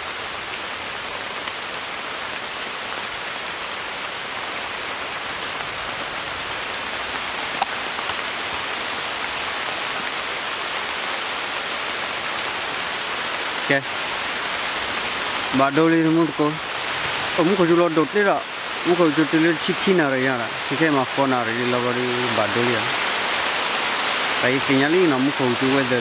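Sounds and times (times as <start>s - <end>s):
rain falling on foliage: 0.0s - 26.0s.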